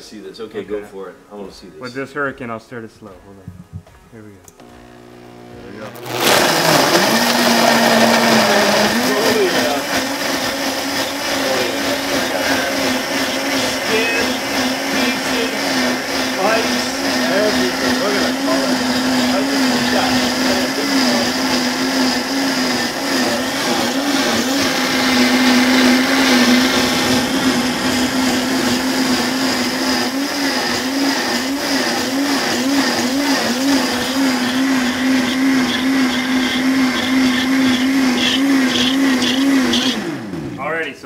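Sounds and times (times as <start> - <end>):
blender motor running: 4.6 - 40.7.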